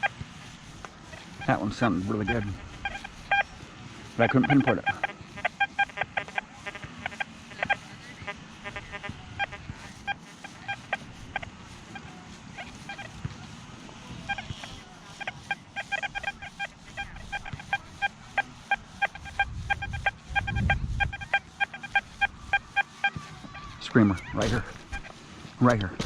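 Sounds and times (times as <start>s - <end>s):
metal detector beeps: 1.1s - 13.2s, 14.0s - 25.2s.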